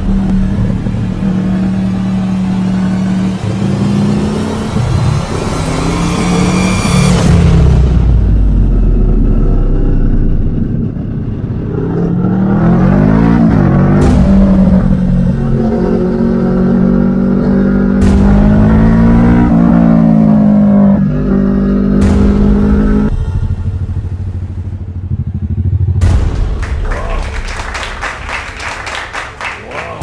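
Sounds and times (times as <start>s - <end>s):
motorcycle engine accelerating: 0.0s - 26.6s.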